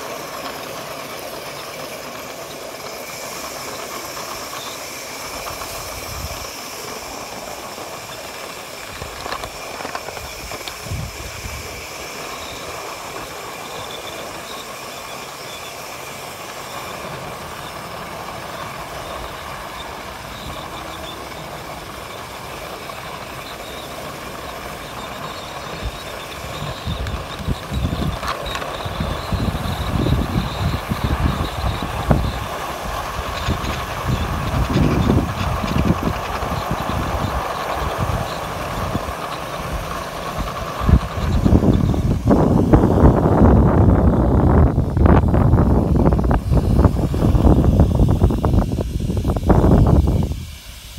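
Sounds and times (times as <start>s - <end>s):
model steam locomotive running hiss: 0.0s - 50.9s
wheels rumbling on rails: 0.0s - 50.9s.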